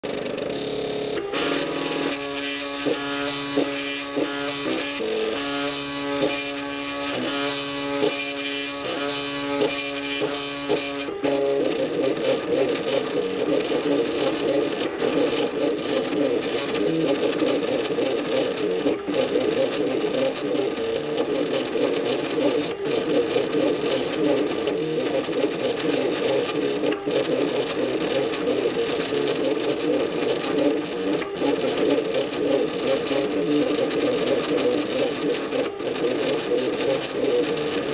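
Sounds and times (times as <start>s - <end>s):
stepper motors whining: 0.0s - 37.9s.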